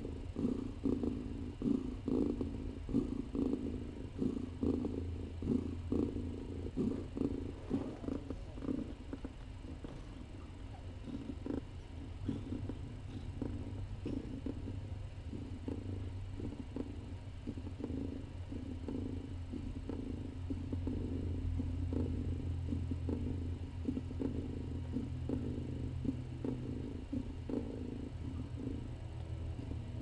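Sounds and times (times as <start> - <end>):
cats purring: 0.0 - 30.0.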